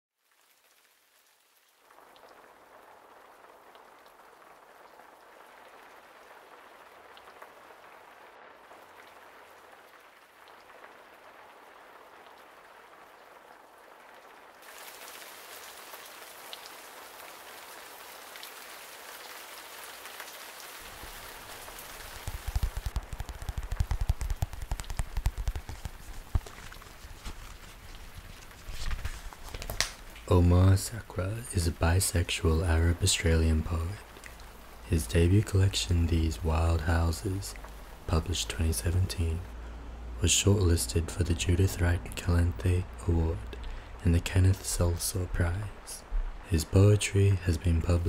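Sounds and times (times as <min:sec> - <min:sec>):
steady rain hissing: 0:00.1 - 0:48.0
small drips: 0:00.2 - 0:39.9, 0:43.4 - 0:44.0.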